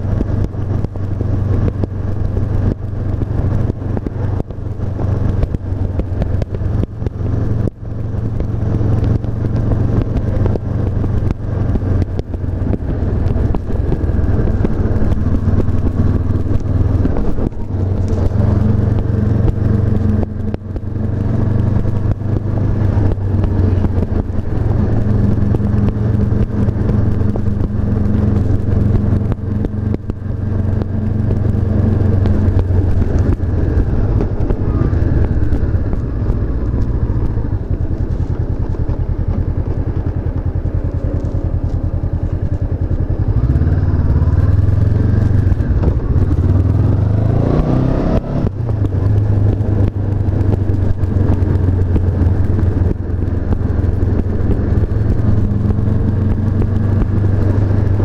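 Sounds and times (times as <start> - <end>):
motorcycle engine cruising: 0.0 - 58.0
wind rush: 0.0 - 58.0.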